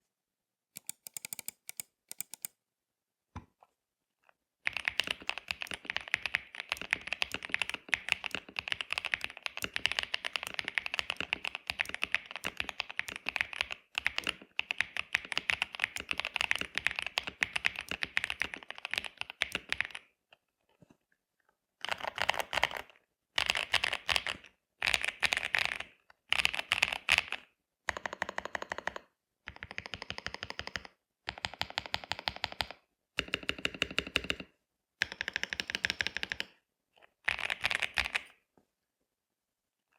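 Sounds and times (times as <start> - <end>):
mechanical keyboard typing: 0.8 - 2.5, 4.6 - 20.1, 21.8 - 36.5, 37.2 - 38.3.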